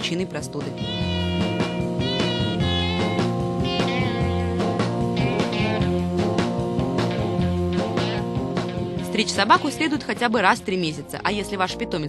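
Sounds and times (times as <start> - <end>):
drums: 0.0 - 11.1
guitar: 0.0 - 12.0.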